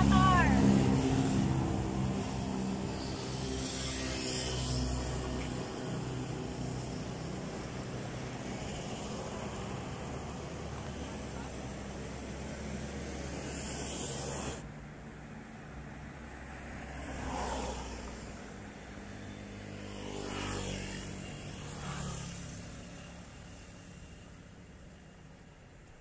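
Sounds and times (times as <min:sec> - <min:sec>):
vehicles passing: 0:00.0 - 0:26.0.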